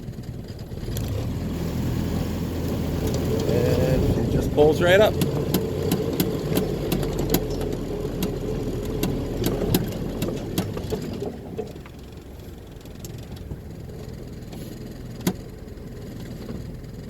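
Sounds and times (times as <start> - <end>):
petrol engine running: 0.0 - 17.0.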